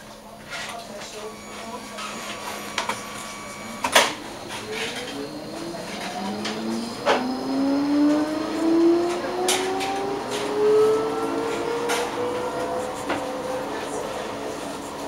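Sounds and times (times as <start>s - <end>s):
tram motors whining: 0.2s - 15.0s.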